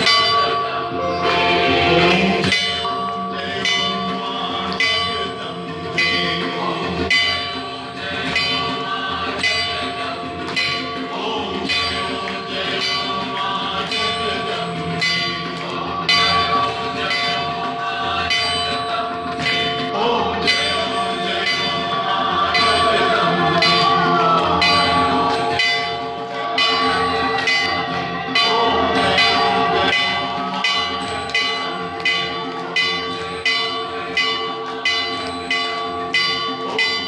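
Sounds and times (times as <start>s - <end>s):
temple bell ringing: 0.0s - 37.0s.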